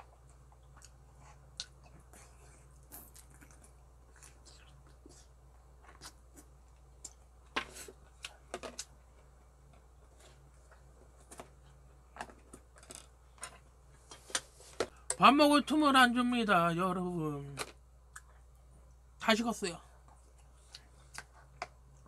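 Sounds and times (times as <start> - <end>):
chewing and smacking: 0.0 - 14.5, 17.6 - 19.0, 20.0 - 22.0.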